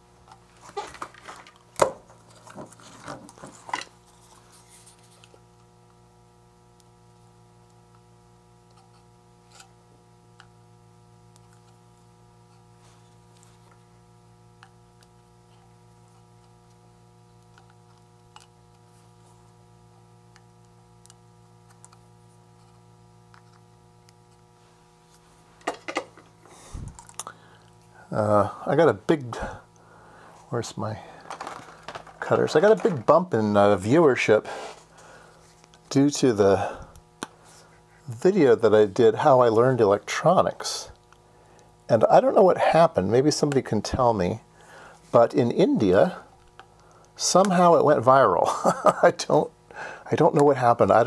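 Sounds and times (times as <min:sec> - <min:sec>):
electrical hum: 0:00.0 - 0:51.0.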